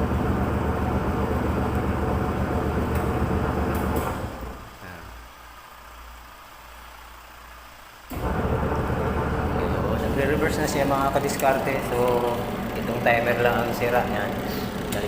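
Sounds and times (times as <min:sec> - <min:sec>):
faint hum: 0:00.0 - 0:15.0
washing machine motor humming: 0:00.0 - 0:15.0.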